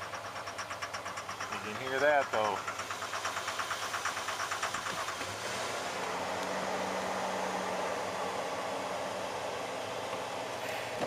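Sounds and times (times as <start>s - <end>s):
engine running with rapid clatter: 0.0s - 11.0s.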